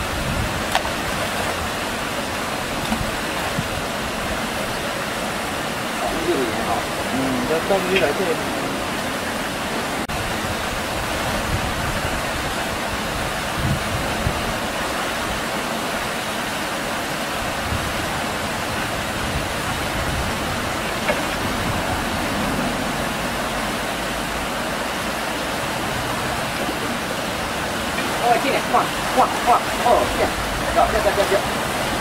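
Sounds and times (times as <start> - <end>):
flowing river water: 0.0 - 32.0.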